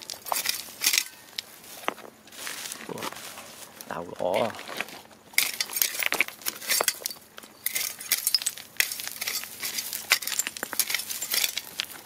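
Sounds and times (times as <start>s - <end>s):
gravel scraping and clinking: 0.0s - 12.0s.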